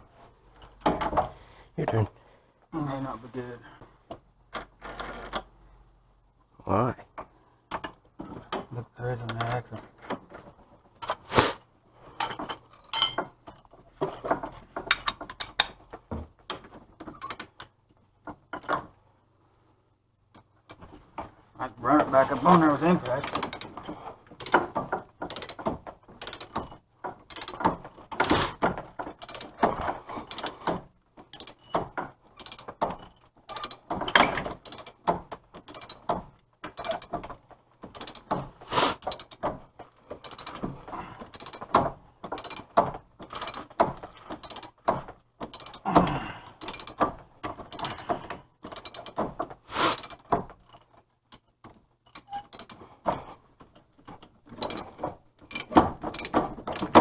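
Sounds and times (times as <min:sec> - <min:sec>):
ratchet and metal tools clanking: 0:00.5 - 0:01.3, 0:04.5 - 0:05.5, 0:07.7 - 0:11.2, 0:12.1 - 0:19.0, 0:20.3 - 0:57.0.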